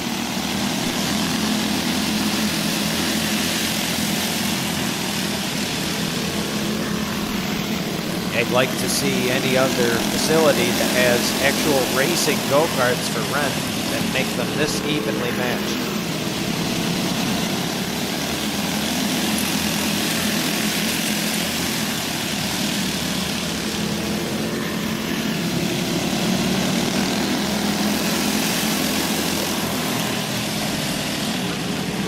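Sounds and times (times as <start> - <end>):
go-kart engines buzzing: 0.0 - 32.0.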